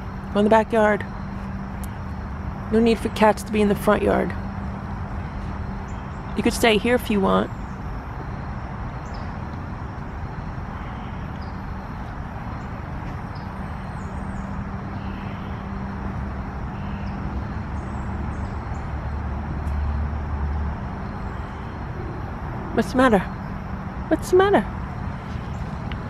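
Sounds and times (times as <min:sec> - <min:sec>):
motor vehicle passing: 0:00.0 - 0:26.0.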